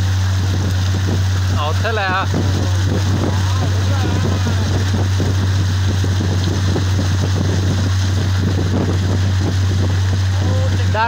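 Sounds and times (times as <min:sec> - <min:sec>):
engine running: 0:00.0 - 0:11.0
wind noise on microphone: 0:00.0 - 0:11.0.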